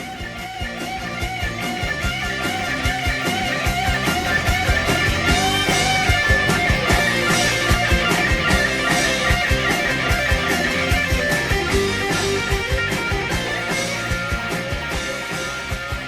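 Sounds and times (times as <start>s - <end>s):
electric guitar: 0.0s - 16.0s
rock band: 0.0s - 16.0s
steady drum beat: 0.0s - 16.0s.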